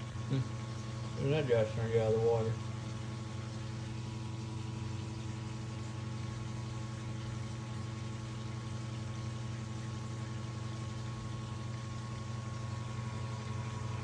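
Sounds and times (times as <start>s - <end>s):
water pump humming: 0.0s - 14.0s.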